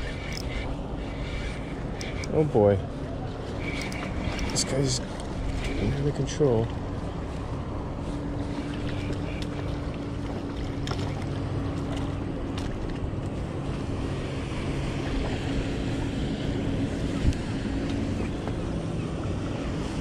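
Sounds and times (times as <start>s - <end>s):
wind on microphone: 0.0s - 10.7s, 13.0s - 20.0s
motorboat engine droning: 0.0s - 20.0s.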